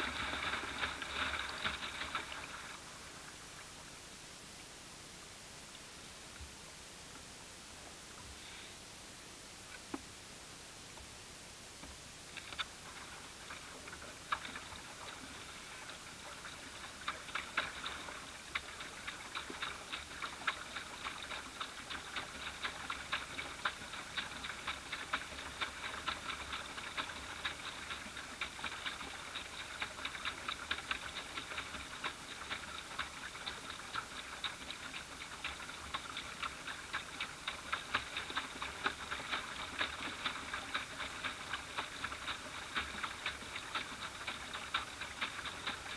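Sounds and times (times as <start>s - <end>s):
water lapping against boat hull: 0.0s - 3.8s, 11.8s - 45.9s.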